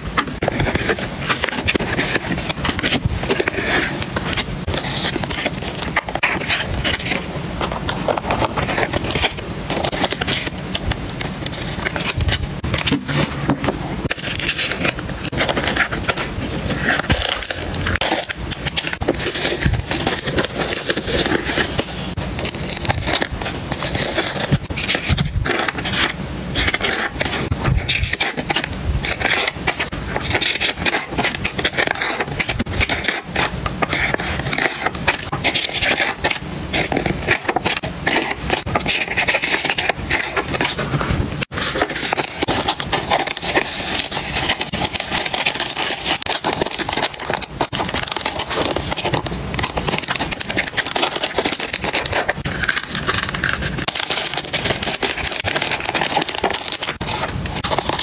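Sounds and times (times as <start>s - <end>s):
paper and plastic crinkling: 0.0s - 58.0s.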